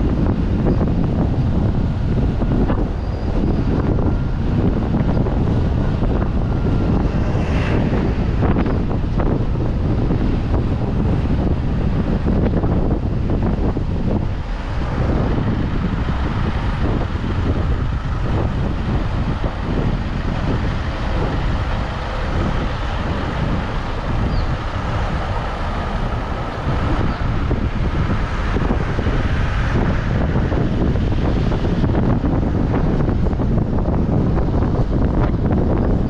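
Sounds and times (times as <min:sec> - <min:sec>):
car road and engine noise: 0:00.0 - 0:36.0
wind buffeting microphone: 0:00.0 - 0:36.0.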